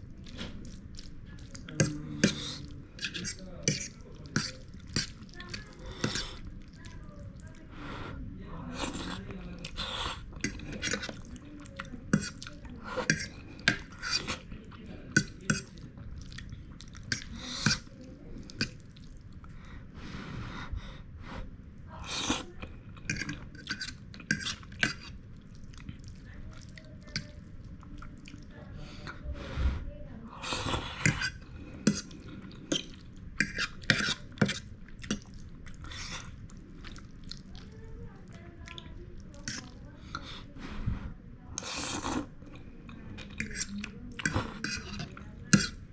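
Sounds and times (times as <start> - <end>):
wet chewing: 0.0 - 7.7, 8.8 - 19.6, 22.1 - 29.2, 30.4 - 40.4, 41.6 - 45.9.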